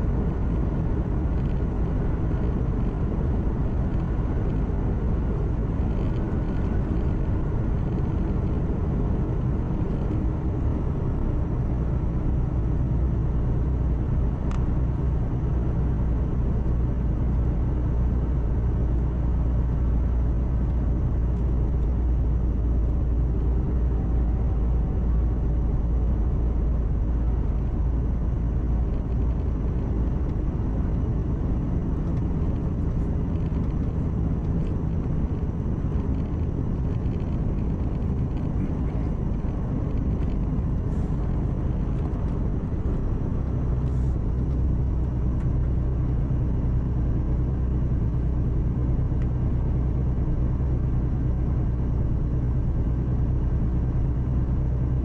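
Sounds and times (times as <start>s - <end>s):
diesel engine drone: 0.0s - 55.0s
tyre and road noise: 0.0s - 55.0s.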